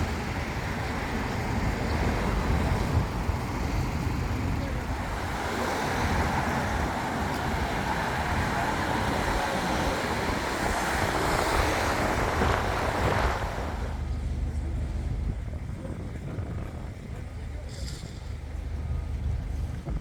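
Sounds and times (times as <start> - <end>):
low engine rumble: 0.0 - 20.0
road and tyre noise: 0.0 - 20.0.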